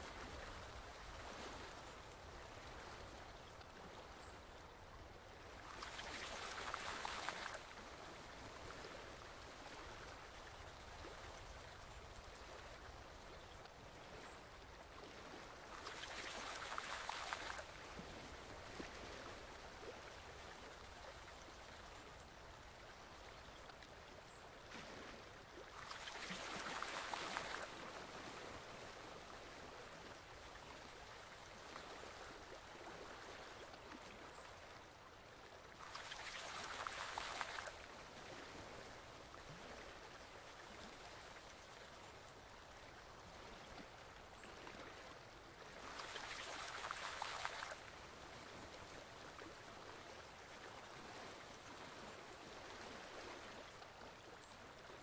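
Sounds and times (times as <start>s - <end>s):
small stream flowing: 0.0s - 55.0s.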